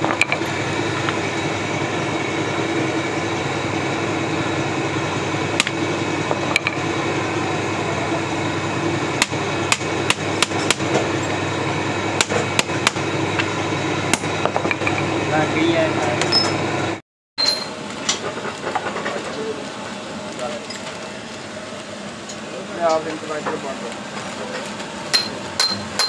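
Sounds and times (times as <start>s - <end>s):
workshop hum: 0.0s - 26.0s.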